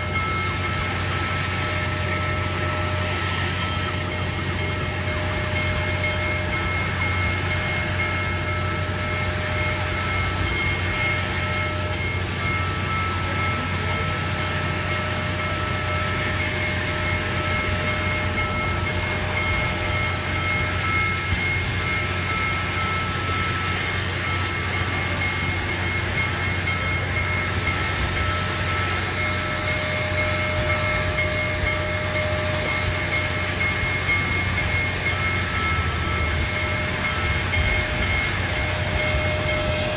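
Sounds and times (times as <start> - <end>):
train rumble and hiss: 0.0 - 39.9.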